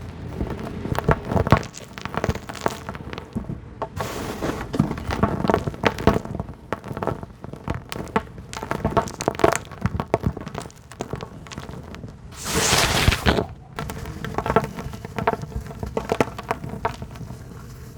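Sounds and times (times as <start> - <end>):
dry dirt crumbling: 0.0 - 17.9
falling grit: 0.0 - 17.9.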